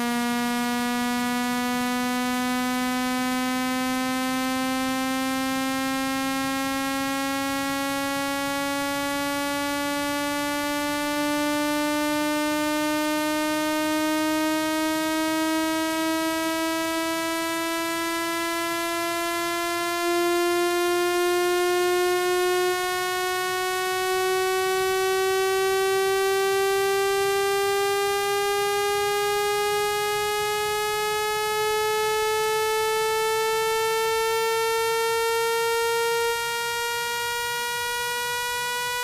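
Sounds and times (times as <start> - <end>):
rising synthetic buzzing tone: 0.0 - 39.0.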